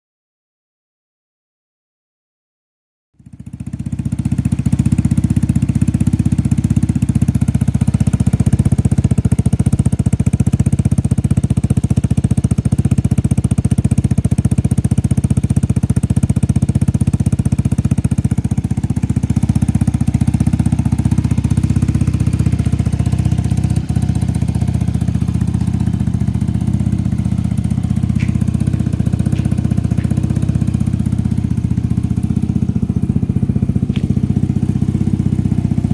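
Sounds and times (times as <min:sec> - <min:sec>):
scooter engine running: 0:03.2 - 0:35.9.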